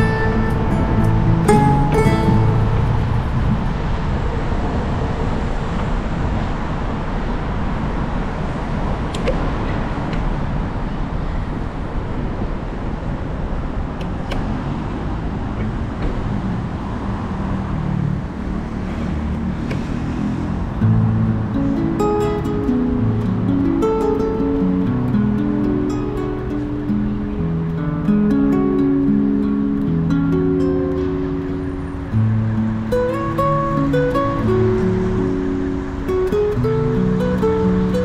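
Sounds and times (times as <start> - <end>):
cars passing: 0.0 - 38.0
wind rumble on microphone: 0.0 - 38.0.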